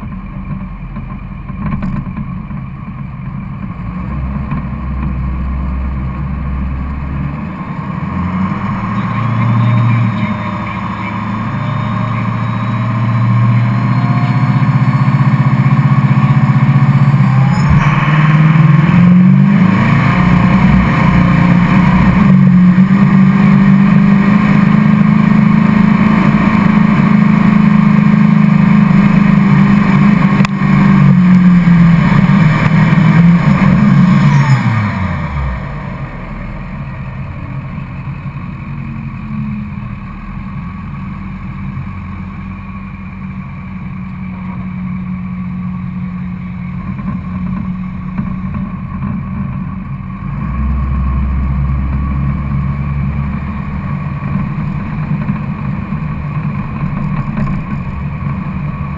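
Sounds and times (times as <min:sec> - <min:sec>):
deeper engine drone: 0:00.0 - 0:58.9
diesel pickup engine revving: 0:00.0 - 0:58.9.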